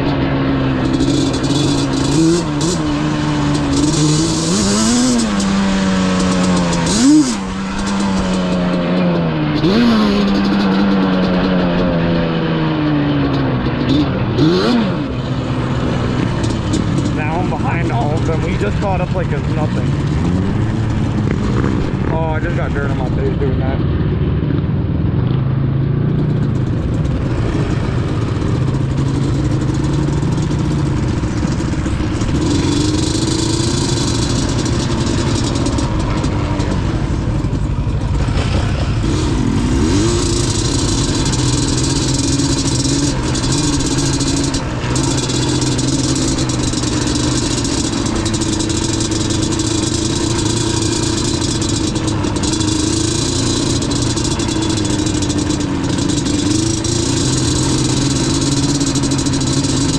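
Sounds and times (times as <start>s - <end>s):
two-stroke quad engine revving: 0.0s - 59.9s.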